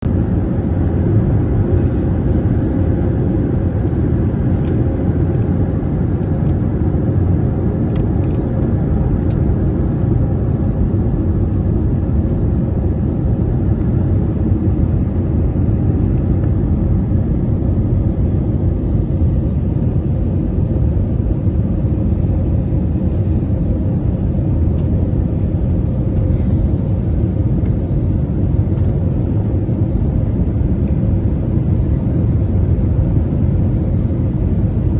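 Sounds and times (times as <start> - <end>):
airliner cabin rumble: 0.0 - 34.9
steady hum: 0.0 - 34.9.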